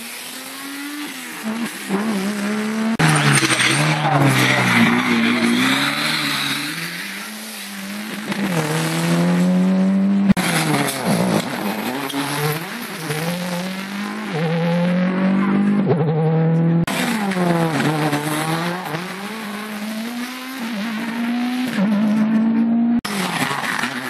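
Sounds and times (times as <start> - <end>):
rally car engines accelerating: 0.0 - 24.0.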